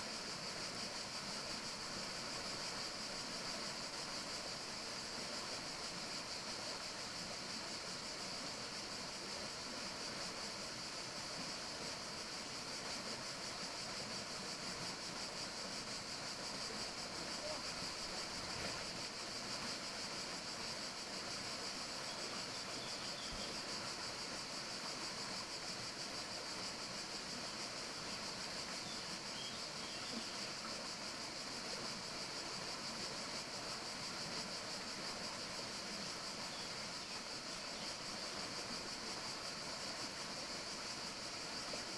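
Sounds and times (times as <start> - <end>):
high forest hiss: 0.0 - 41.9.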